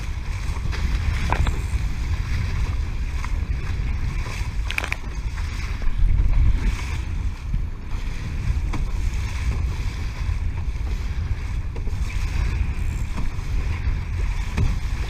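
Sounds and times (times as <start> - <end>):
choppy water slapping hull: 0.0 - 15.0
wind buffeting microphone: 0.0 - 15.0.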